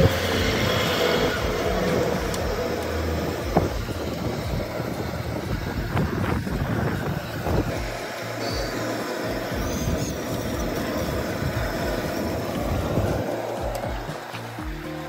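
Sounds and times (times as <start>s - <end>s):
steady low rumble: 0.0s - 14.9s
chillies sizzling in hot oil: 0.0s - 15.0s.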